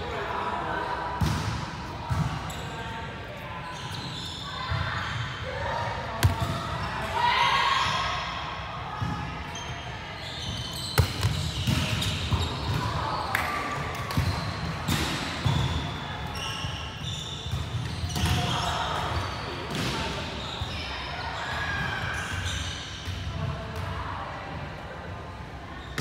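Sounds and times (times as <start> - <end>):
players calling in echoing hall: 0.0 - 24.6.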